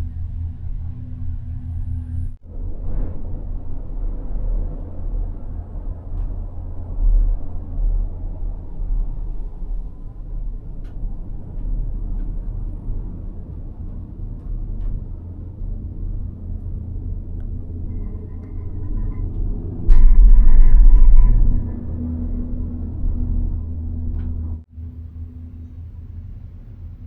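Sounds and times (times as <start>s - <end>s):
gondola cabin rumbling: 0.0s - 27.0s
loud rumble and rattle: 0.0s - 27.0s.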